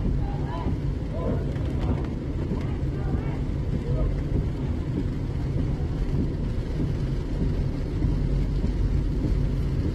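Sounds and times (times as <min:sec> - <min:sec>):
car driving on wet road: 0:00.0 - 0:09.9.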